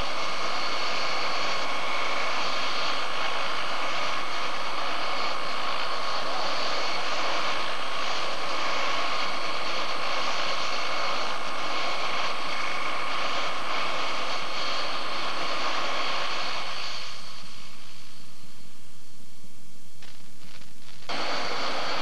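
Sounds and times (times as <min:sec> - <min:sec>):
helicopter engine running: 0:00.0 - 0:18.8, 0:21.1 - 0:22.0.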